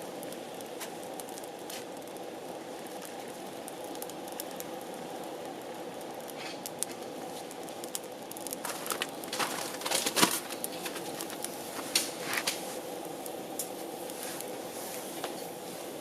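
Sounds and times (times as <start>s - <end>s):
campfire crackling and hissing: 0.0s - 16.0s.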